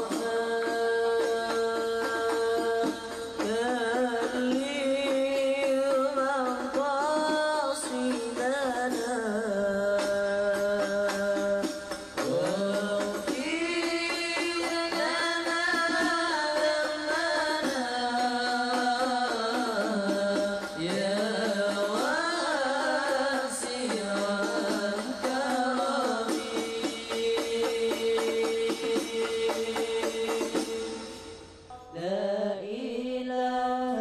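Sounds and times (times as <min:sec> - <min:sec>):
person singing devotional song: 0:00.0 - 0:34.0.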